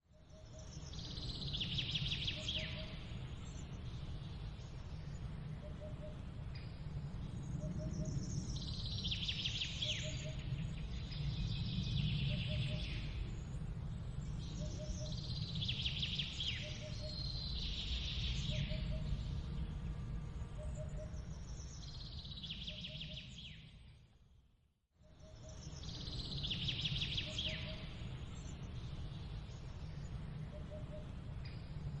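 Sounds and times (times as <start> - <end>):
songbird singing trilled phrases: 0.1 - 6.7, 7.4 - 13.4, 14.2 - 19.8, 20.6 - 23.9, 25.0 - 31.8
steady low rumble: 0.8 - 24.5, 25.4 - 32.0.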